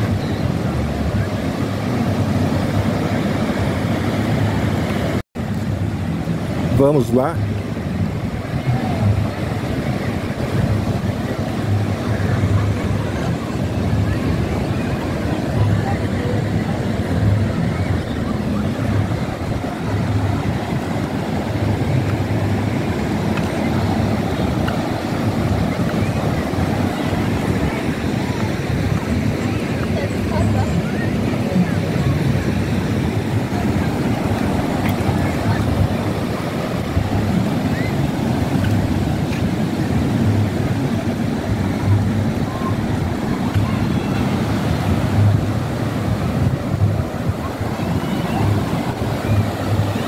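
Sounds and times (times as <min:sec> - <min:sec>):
ocean surf breaking: 0:00.0 - 0:50.0
wind buffeting microphone: 0:00.0 - 0:50.0.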